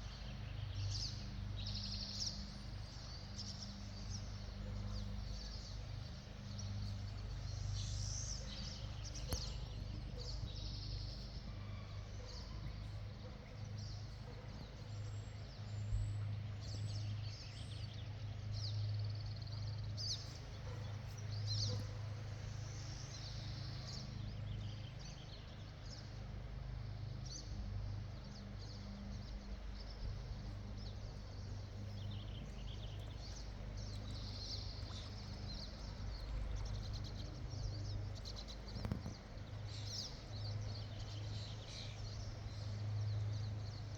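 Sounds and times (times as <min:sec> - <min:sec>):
small birds chirping: 0:00.0 - 0:43.9
steady low hum: 0:00.0 - 0:43.9.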